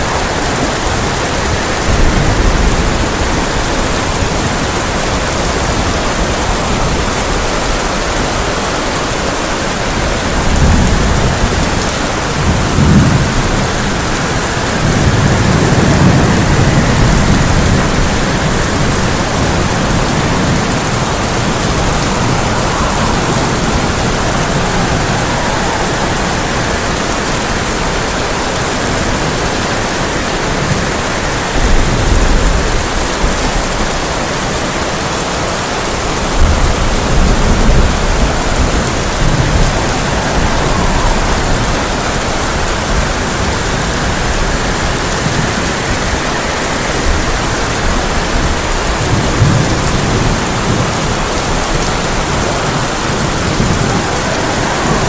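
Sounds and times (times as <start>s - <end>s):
heavy rain on a tin roof: 0.0s - 55.0s
thunder rumbling: 0.0s - 55.0s.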